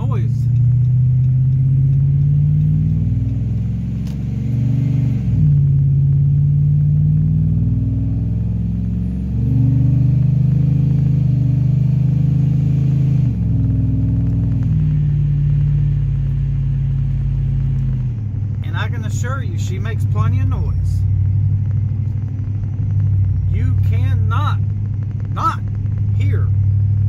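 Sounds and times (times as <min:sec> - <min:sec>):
supercharged engine while driving: 0:00.0 - 0:27.0.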